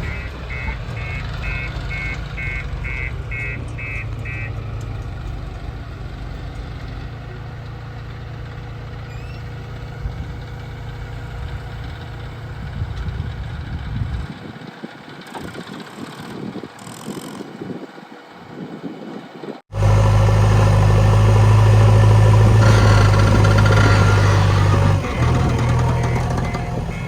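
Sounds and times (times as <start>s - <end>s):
diesel engine humming: 0.0s - 15.3s, 19.7s - 27.0s.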